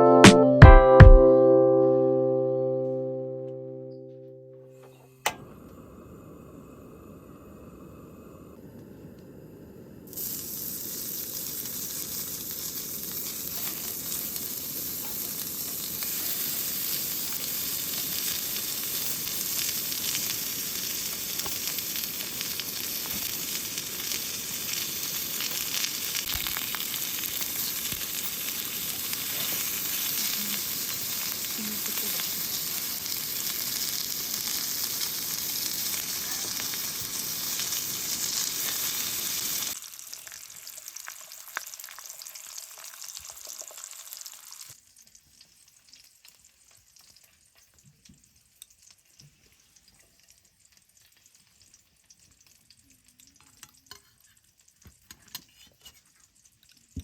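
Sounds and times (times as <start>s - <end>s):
food sizzling in a hot pan: 9.5s - 57.0s.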